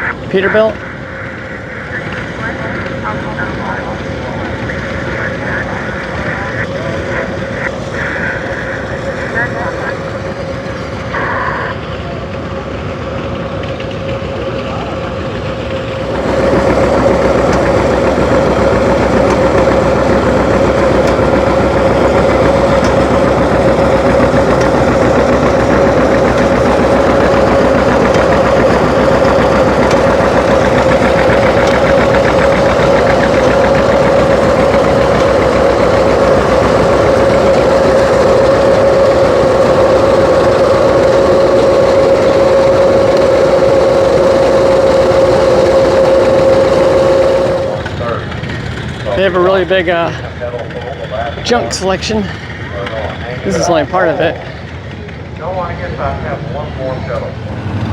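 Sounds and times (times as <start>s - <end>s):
high whine: 0.0s - 57.1s
engine running: 0.0s - 57.9s.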